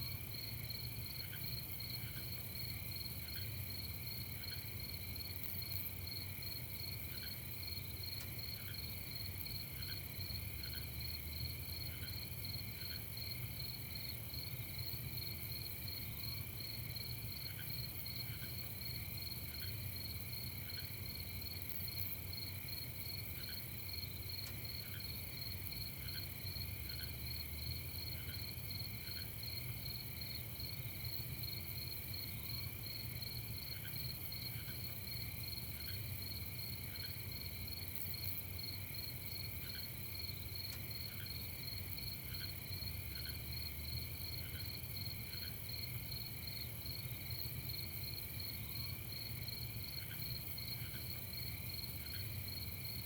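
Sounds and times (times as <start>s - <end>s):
night insects trilling: 0.0s - 53.0s.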